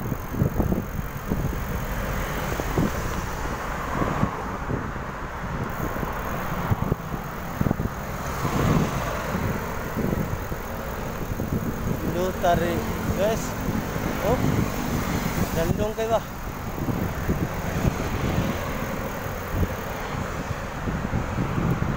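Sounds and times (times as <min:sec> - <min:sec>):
road noise: 0:00.0 - 0:21.9
wind buffeting microphone: 0:00.0 - 0:21.9.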